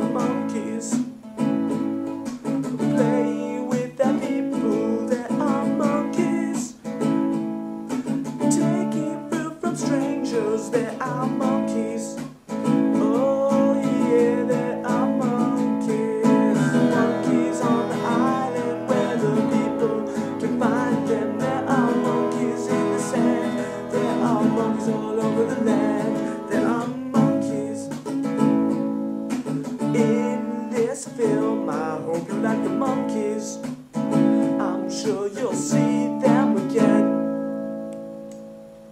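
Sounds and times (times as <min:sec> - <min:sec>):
person singing: 0:00.0 - 0:01.2, 0:02.7 - 0:06.9, 0:08.2 - 0:28.7, 0:29.6 - 0:37.4
strummed acoustic guitar: 0:00.0 - 0:38.9.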